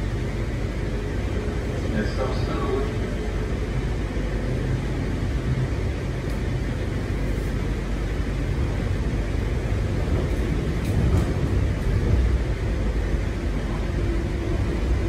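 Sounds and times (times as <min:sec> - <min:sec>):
train carriage rumbling on track: 0:00.0 - 0:15.0.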